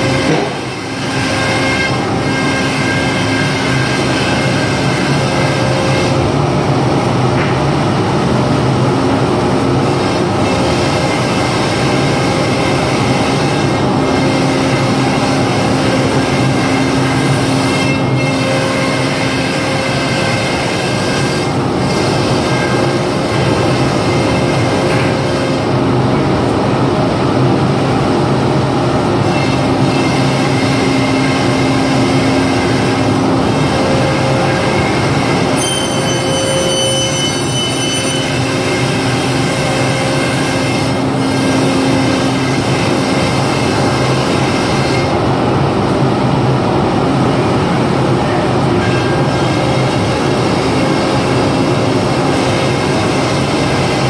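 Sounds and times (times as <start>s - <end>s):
cnc router machining: 0.0s - 54.0s.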